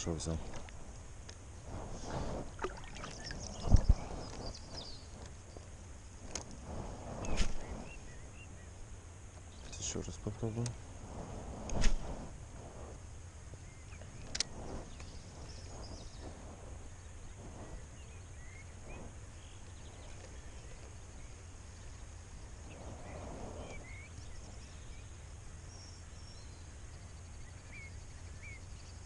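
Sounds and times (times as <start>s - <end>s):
small birds chirping: 0.0s - 6.6s, 7.2s - 10.9s, 13.5s - 29.0s
low steady rumble: 0.0s - 29.0s.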